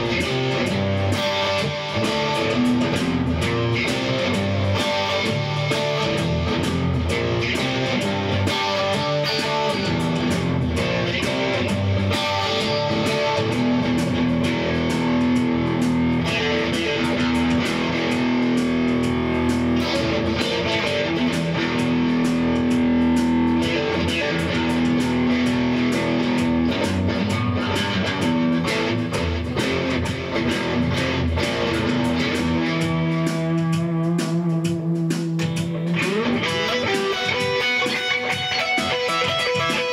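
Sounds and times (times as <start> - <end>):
electric guitar: 0.0 - 39.9
electronic drum beat: 0.0 - 39.9.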